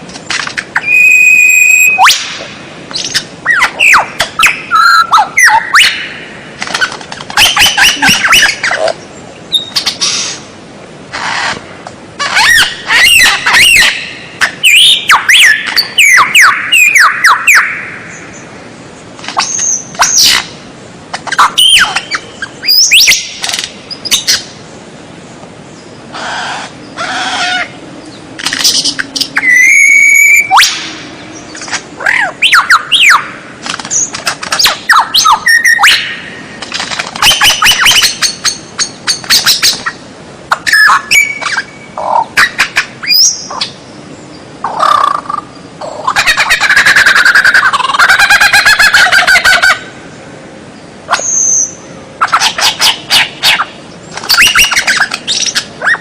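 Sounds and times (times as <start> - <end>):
bird singing varied song: 0.2 - 10.4, 12.2 - 56.0.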